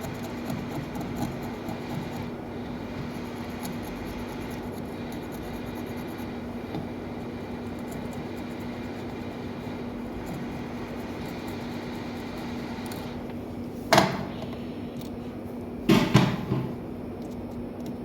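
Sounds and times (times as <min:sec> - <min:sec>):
fan whirring with low hum: 0:00.0 - 0:18.0.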